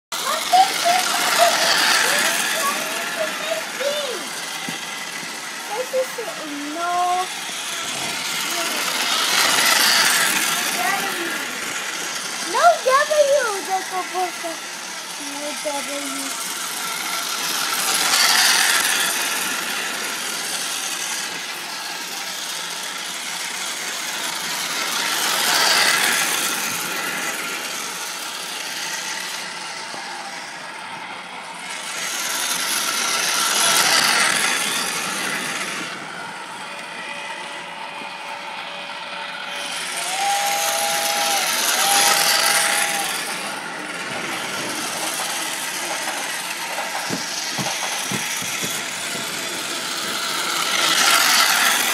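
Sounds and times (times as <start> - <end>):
toy train rattling on track: 0.2 - 51.9.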